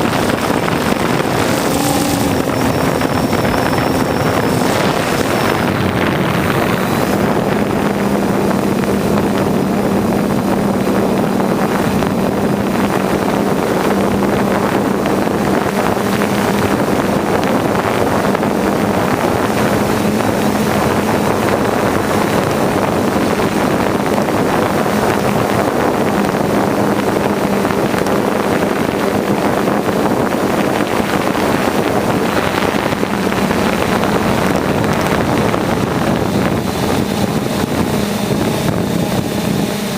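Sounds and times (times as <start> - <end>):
drone motors humming: 0.0 - 39.9
wind noise on microphone: 0.0 - 39.9.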